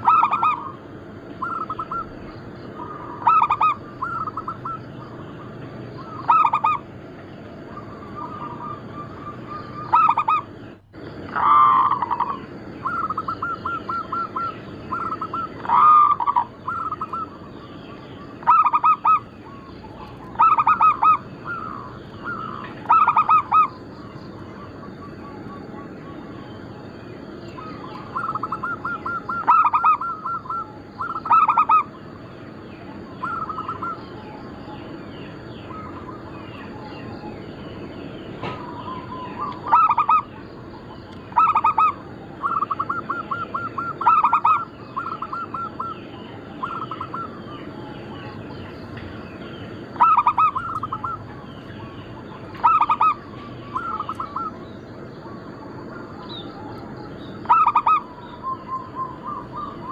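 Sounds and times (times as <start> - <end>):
dove cooing: 0.0 - 49.1, 49.8 - 59.9
faint chirping: 0.0 - 59.9.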